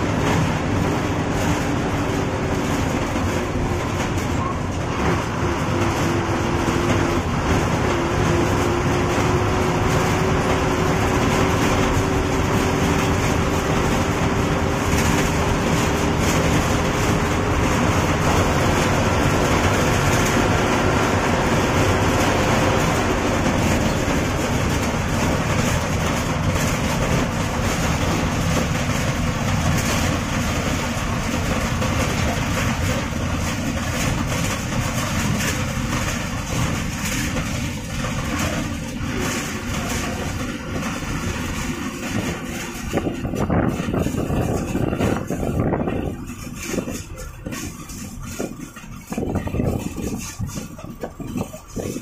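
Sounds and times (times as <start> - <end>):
bus body rattling: 0.0 - 52.0
bus diesel engine running: 0.0 - 52.0
road noise: 0.0 - 52.0.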